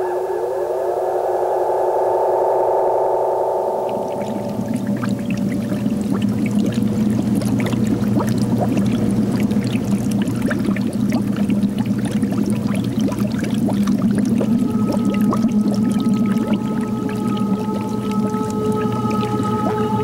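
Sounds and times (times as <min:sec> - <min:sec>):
water bubbling and trickling: 0:03.0 - 0:20.0.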